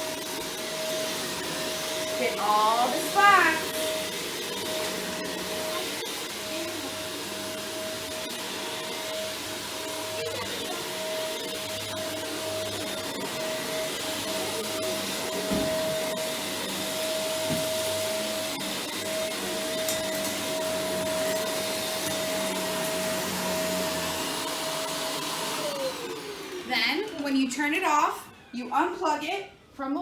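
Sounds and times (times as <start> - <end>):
vacuum cleaner running: 0.0 - 29.2.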